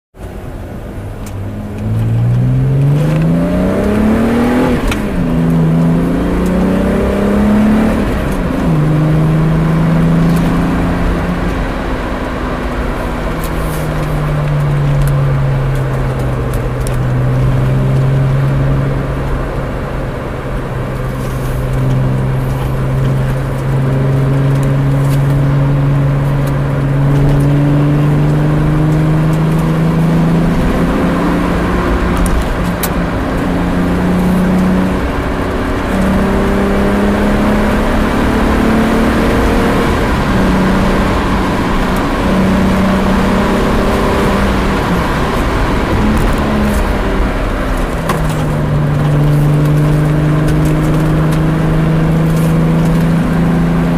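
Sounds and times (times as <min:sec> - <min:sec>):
car engine accelerating and cruising: 0:00.1 - 0:53.9.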